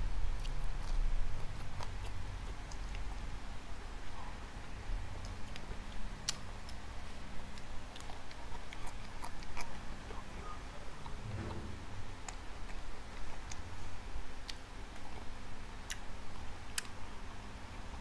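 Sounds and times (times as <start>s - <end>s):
person chewing raw carrot: 0.2s - 3.3s, 5.2s - 18.0s.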